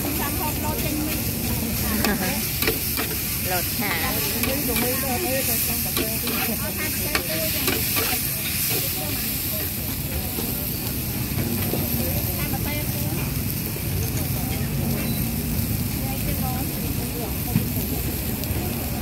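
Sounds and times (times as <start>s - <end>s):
food frying and sizzling: 0.0s - 19.0s.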